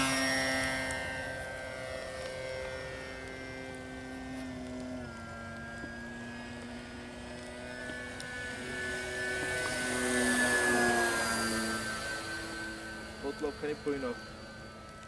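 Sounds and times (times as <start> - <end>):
model plane motor whining: 0.0 - 15.0.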